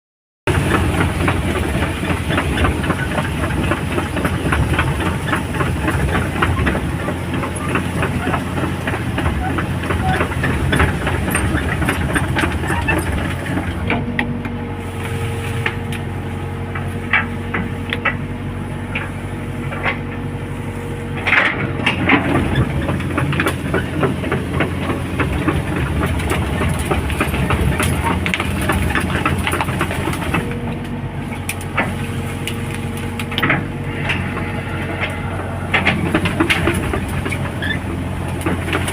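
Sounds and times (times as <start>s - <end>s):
excavator diesel engine running: 0.5s - 38.9s
machine clanks and rattles: 0.5s - 38.9s
steady hydraulic whine: 0.5s - 38.9s.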